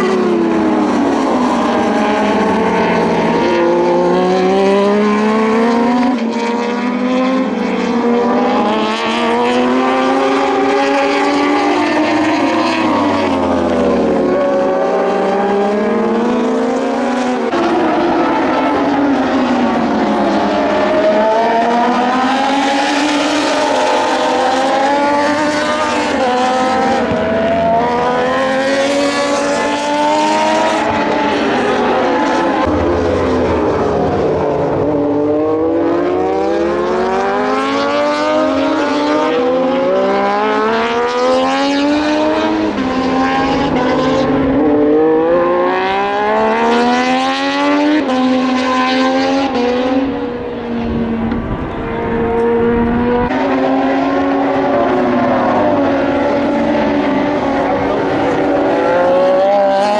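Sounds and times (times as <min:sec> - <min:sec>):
race motorcycles passing: 0:00.0 - 0:59.9.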